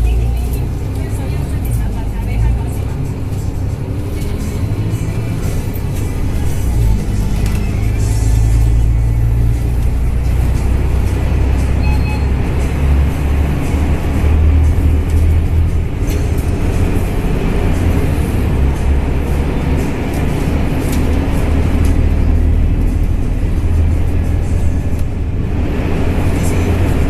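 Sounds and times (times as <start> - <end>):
bus engine droning: 0.0 - 27.0
road noise: 0.0 - 27.0.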